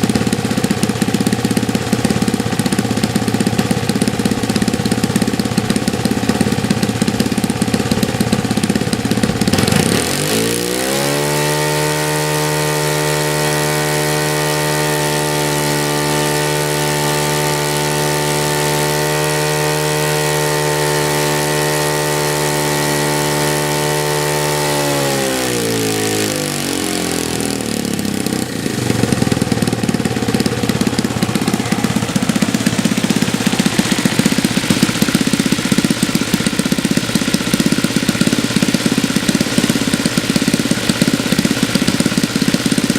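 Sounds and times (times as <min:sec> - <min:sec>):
model plane engine running: 0:00.0 - 0:42.9.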